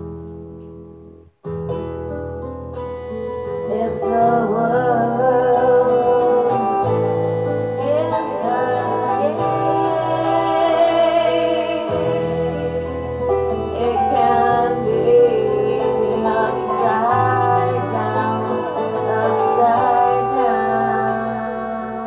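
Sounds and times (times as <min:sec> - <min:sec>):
bass line: 0:00.0 - 0:22.0
held instrumental chords: 0:00.0 - 0:22.0
person singing: 0:03.2 - 0:22.0.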